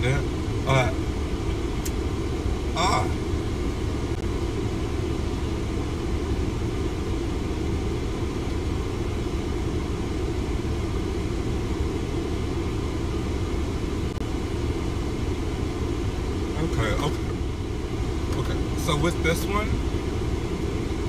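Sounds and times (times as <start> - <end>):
car air conditioning rumble: 0.0 - 21.0.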